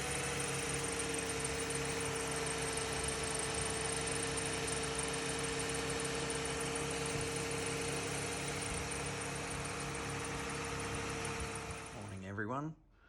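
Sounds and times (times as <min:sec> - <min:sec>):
car engine idling: 0:00.1 - 0:12.1.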